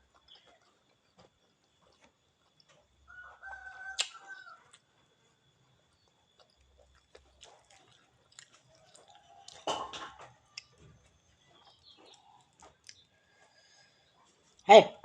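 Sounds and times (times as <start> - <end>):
person chewing: 0.0 - 14.6.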